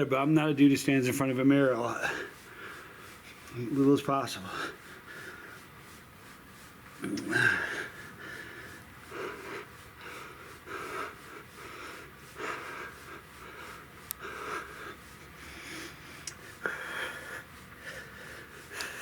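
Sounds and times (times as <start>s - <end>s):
man breathing hard: 1.9s - 3.6s, 4.4s - 19.0s.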